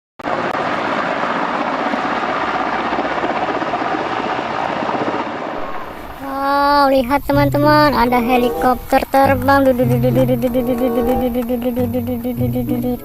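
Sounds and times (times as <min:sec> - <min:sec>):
helicopter rotor and turbine: 0:00.3 - 0:13.0.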